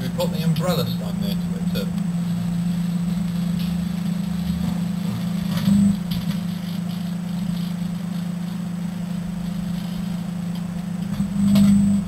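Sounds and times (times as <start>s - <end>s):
electrical arcing and crackling: 0.0s - 12.0s
microwave oven humming: 0.0s - 12.0s.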